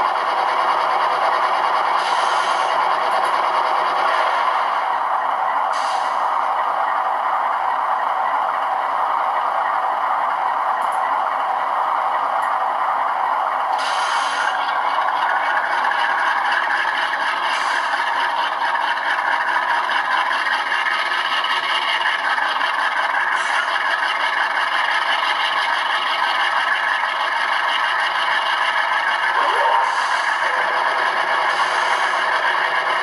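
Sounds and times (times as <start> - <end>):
model locomotive diesel engine sound: 0.0 - 33.0.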